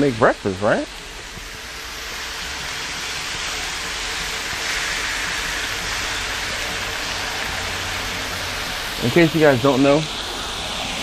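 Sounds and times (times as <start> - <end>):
bacon sizzling on a griddle: 0.0 - 11.0.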